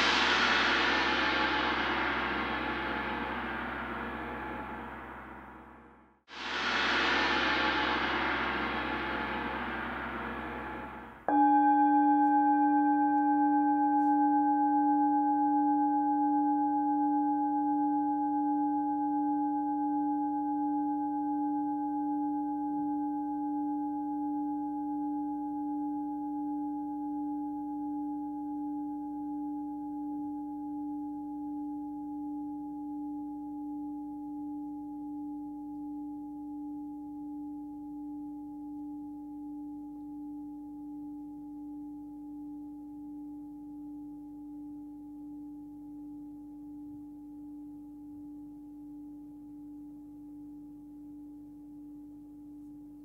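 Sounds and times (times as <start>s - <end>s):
singing bowl ringing: 6.3s - 51.2s.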